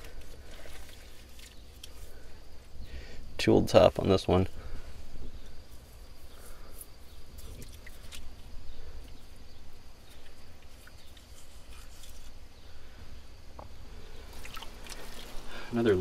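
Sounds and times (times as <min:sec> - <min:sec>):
faint high insect drone: 0:00.0 - 0:16.0.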